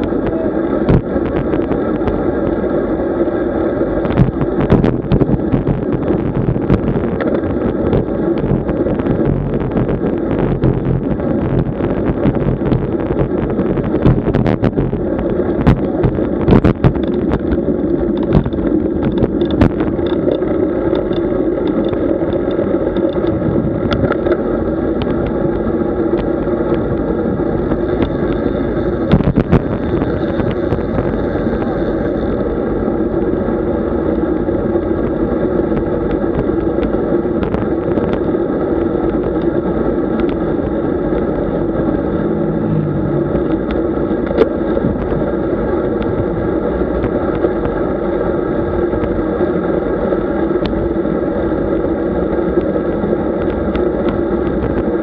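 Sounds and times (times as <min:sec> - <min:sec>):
bicycle rattling over bumps: 0:00.0 - 0:55.0
wind and tyres on road: 0:00.0 - 0:55.0.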